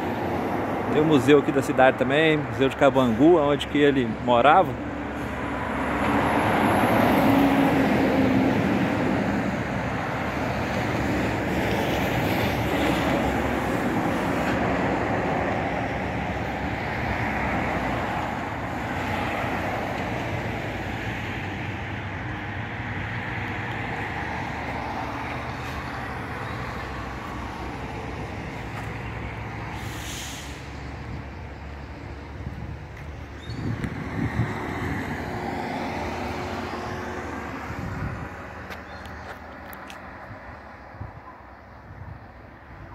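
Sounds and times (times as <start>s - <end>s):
highway traffic rumble: 0.0s - 42.9s.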